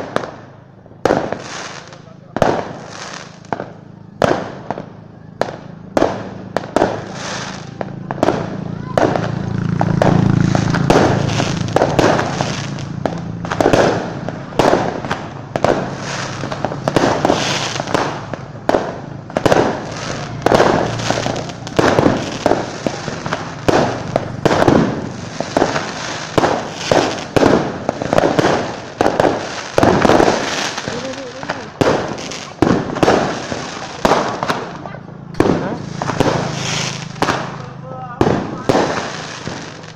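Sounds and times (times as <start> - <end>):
fireworks banging: 0.0 - 39.9.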